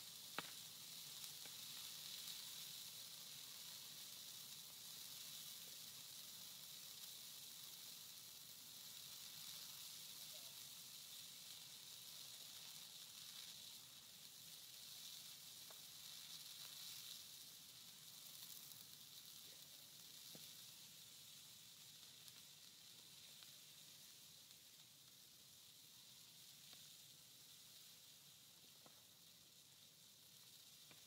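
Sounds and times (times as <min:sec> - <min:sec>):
fire hissing and crackling: 0:00.0 - 0:31.0.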